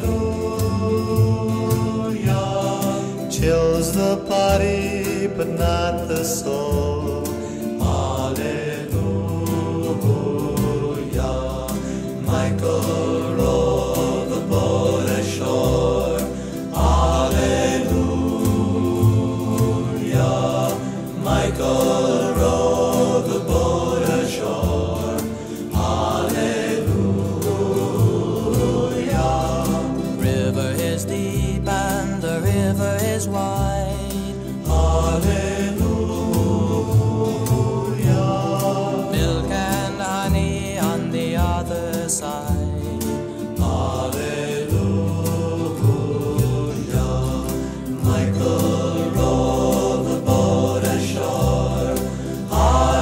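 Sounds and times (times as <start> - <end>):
acoustic accompaniment: 0.0 - 53.0
low bass notes: 0.0 - 53.0
male vocal group singing: 0.0 - 53.0.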